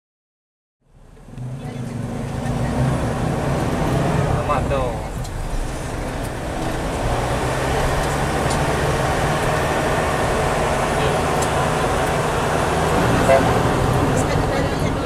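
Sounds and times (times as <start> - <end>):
minibus engine and road noise: 0.8 - 15.0.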